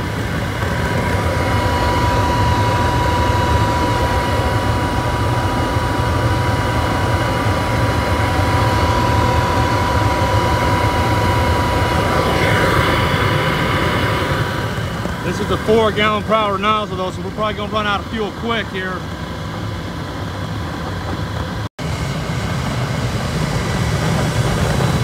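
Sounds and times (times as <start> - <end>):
high whine: 0.0 - 25.0
oil burner flame roar: 0.0 - 25.0.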